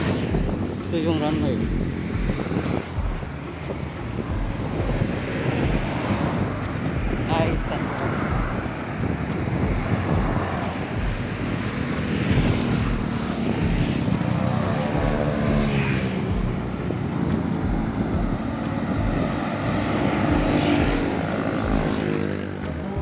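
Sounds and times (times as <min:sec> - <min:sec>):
aircraft engines droning: 0:00.0 - 0:23.0
wind rumble on microphone: 0:00.0 - 0:23.0.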